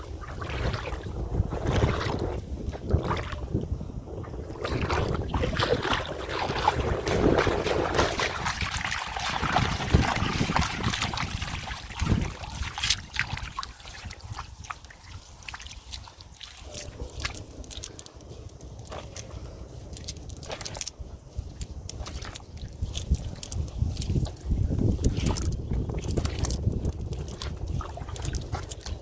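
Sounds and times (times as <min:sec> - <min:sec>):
water sloshing and splashing: 0:00.0 - 0:29.0
wind buffeting microphone: 0:00.0 - 0:29.0.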